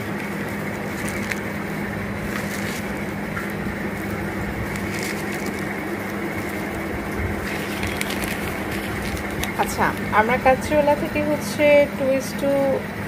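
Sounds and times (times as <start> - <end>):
plastic bag rustling: 0.0 - 10.7
room hum and hiss: 0.0 - 13.0.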